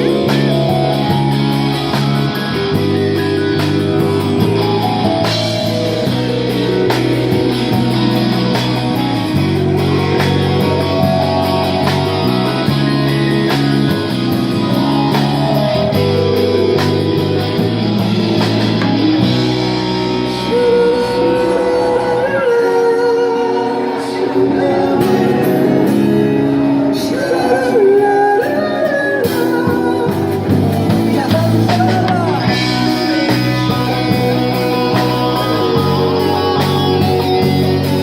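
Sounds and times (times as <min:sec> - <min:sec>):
live rock-pop band music: 0:00.0 - 0:38.0.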